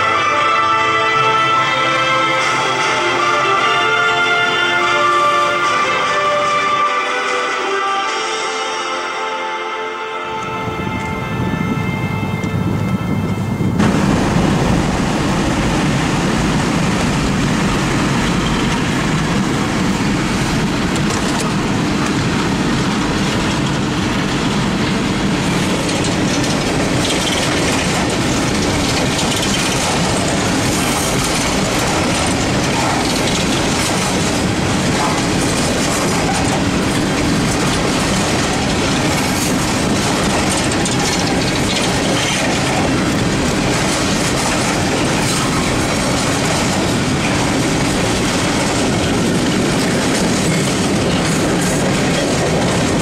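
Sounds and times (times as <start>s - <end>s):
train wheels rolling on rails: 10.4s - 53.0s.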